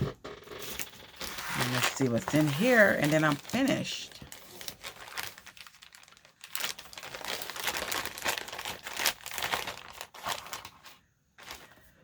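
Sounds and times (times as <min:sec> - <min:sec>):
bag and papers crinkling: 0:00.6 - 0:12.0.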